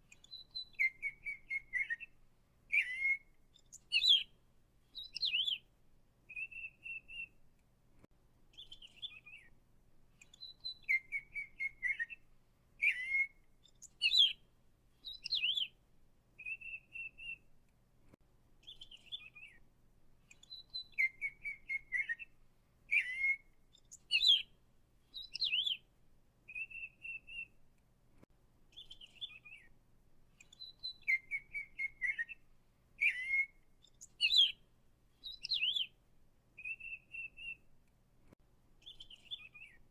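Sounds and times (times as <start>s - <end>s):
songbird singing: 0.0s - 7.6s, 8.4s - 15.8s, 16.4s - 17.6s, 18.6s - 27.7s, 28.7s - 37.8s, 38.8s - 39.9s.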